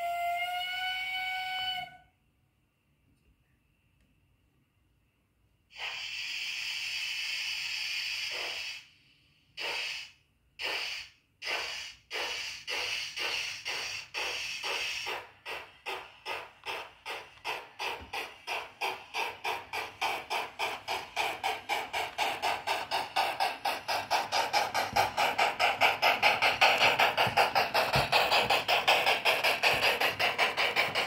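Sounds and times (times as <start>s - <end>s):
steam hiss: 5.7s - 31.0s
steam locomotive exhaust chuffs: 5.7s - 31.0s.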